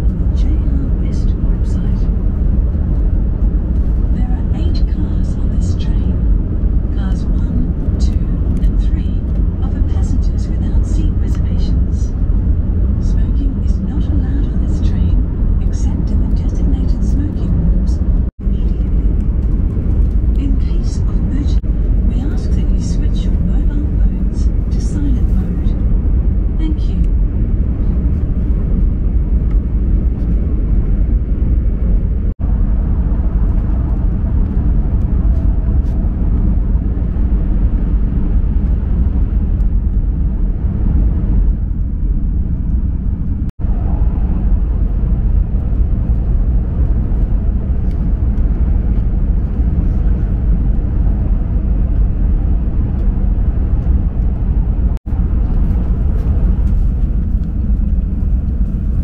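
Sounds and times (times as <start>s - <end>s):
train interior rumble with hiss: 0.0s - 59.0s.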